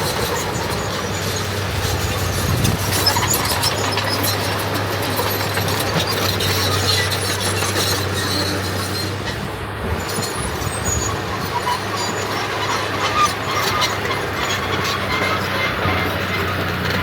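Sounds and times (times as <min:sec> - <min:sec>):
diesel engine under load: 0:00.0 - 0:17.0
metallic squeaks and clanks: 0:00.0 - 0:17.0.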